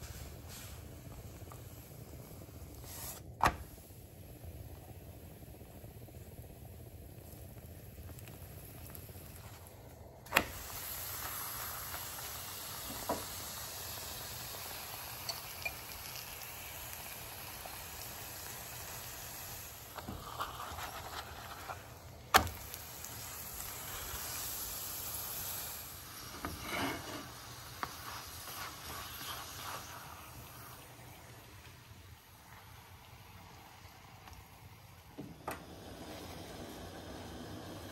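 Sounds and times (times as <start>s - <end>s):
flatbread sizzling in oil: 0.0s - 37.9s.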